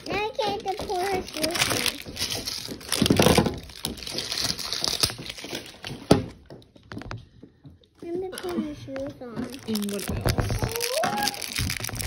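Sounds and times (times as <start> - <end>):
packaging and wrapping paper crinkling: 0.0 - 7.1, 8.0 - 12.0.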